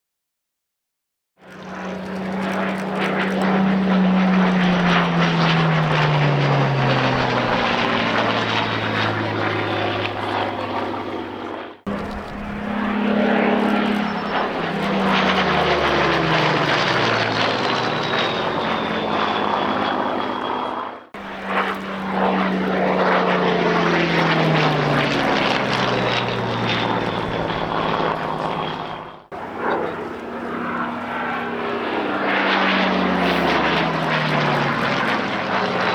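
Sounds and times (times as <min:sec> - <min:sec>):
propeller planes flying past: 0:01.4 - 0:35.9.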